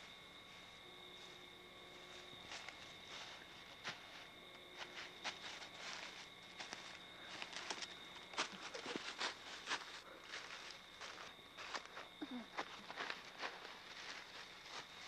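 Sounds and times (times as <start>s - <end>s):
footsteps crunching in woods: 0.0s - 15.0s.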